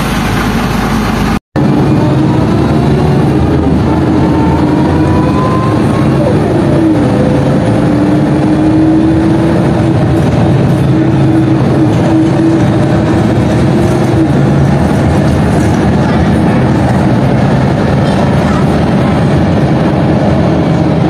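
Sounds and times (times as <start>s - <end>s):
bus engine droning: 0.0s - 21.0s
held whine: 0.0s - 21.0s
rattling body and road noise: 0.0s - 21.0s.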